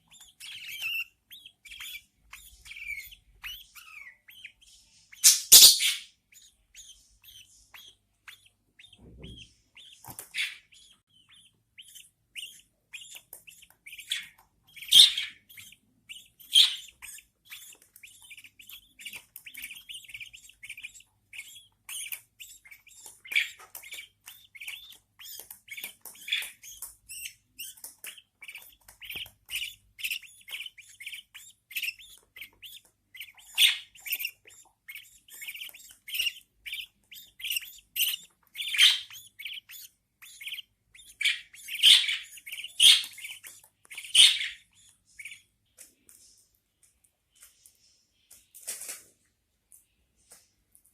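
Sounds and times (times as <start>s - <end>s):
chicks cheeping: 0.0s - 46.3s.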